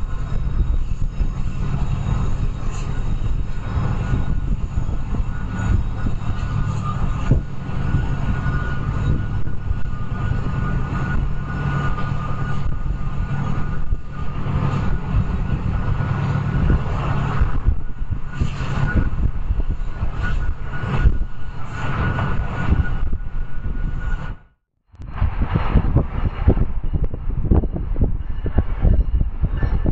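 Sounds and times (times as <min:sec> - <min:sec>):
freight train rumbling: 0:00.0 - 0:29.9
high whine: 0:00.0 - 0:29.9.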